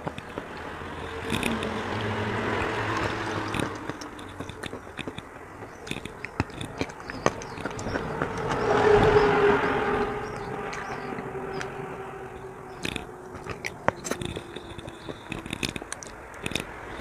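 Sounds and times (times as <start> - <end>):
crunching chalk being chewed: 0.0 - 17.0.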